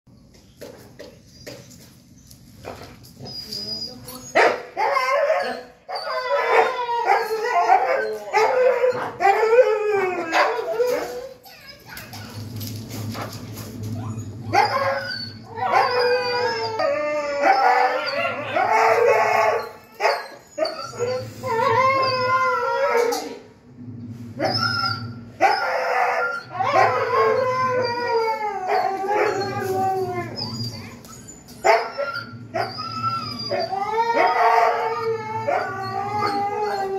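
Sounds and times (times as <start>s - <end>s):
dogs howling and whining: 3.2s - 23.6s, 24.4s - 36.9s.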